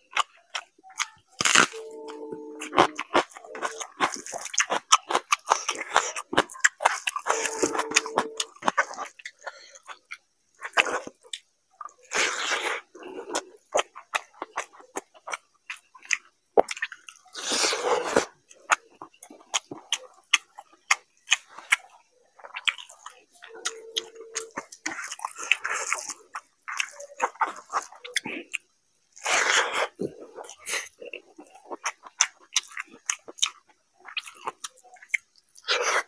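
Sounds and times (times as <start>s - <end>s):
man chewing with wet mouth sounds: 0.0s - 36.0s.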